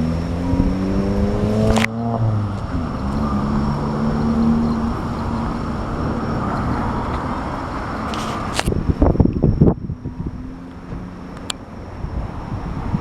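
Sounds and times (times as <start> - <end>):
storm wind on microphone: 0.0 - 13.0
vehicle engine running: 0.0 - 13.0.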